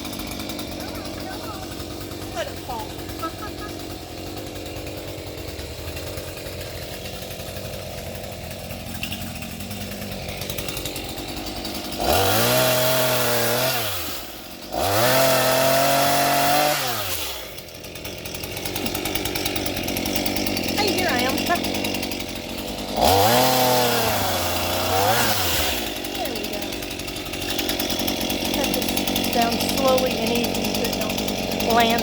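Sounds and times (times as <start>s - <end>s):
two-stroke chainsaw revving: 0.0s - 32.0s.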